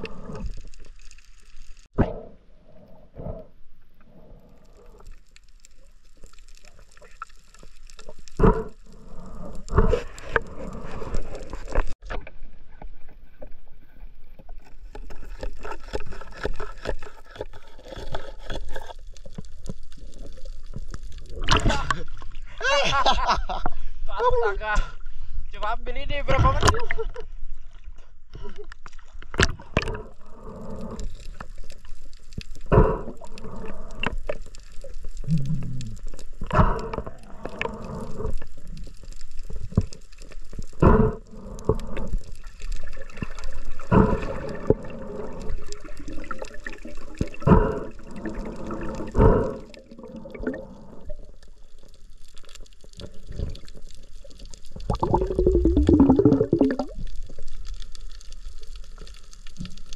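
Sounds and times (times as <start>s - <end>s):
water sounds: 0.0s - 25.4s, 26.3s - 59.9s.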